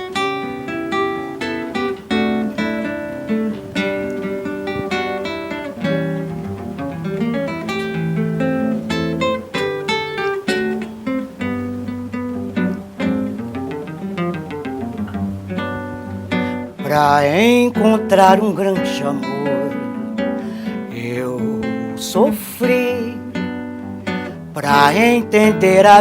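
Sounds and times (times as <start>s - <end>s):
acoustic guitar samba: 0.0s - 26.0s.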